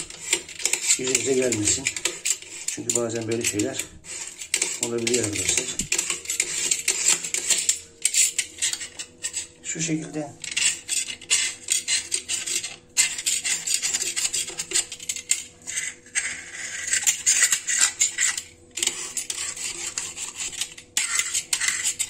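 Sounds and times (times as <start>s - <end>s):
knife blade scraping sealant: 0.0s - 9.6s, 10.4s - 22.0s.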